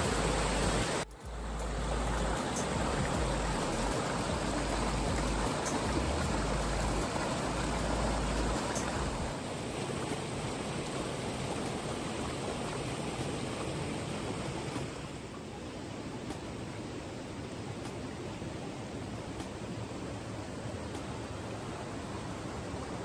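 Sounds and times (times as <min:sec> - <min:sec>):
stream rushing over boulders: 0:00.0 - 0:23.0.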